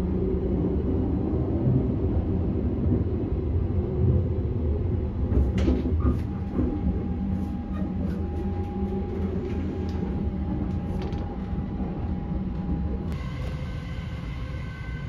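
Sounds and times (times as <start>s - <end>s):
train running low rumble: 0.0s - 15.0s.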